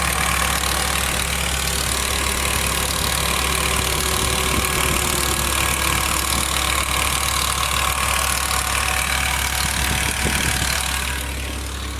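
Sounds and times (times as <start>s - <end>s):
car engine idling: 0.0s - 11.9s
engine ticking: 0.0s - 11.9s.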